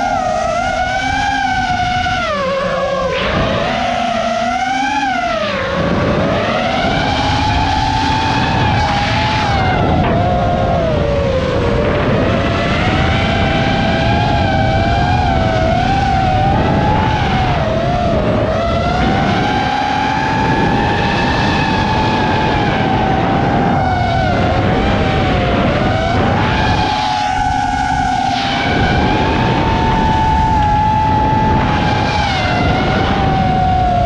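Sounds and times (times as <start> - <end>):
drone propellers whining: 0.0 - 34.0
rush of wind: 0.0 - 34.0.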